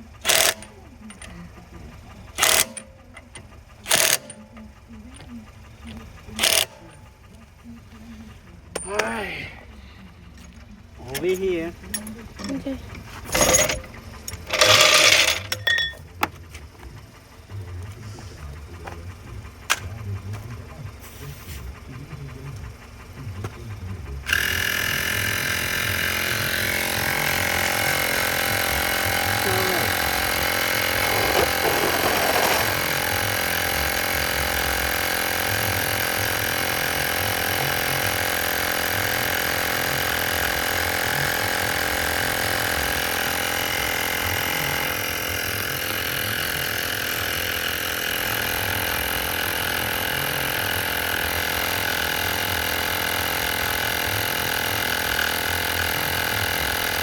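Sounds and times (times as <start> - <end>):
motor running steadily: 0.0 - 57.0.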